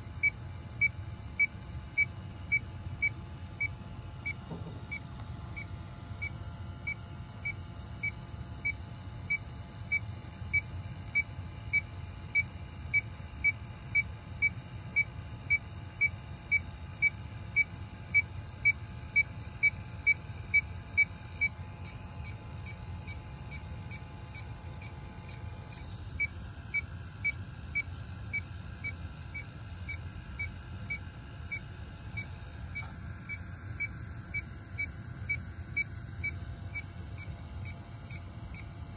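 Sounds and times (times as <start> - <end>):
electronic leak detector beeping: 0.0 - 38.9.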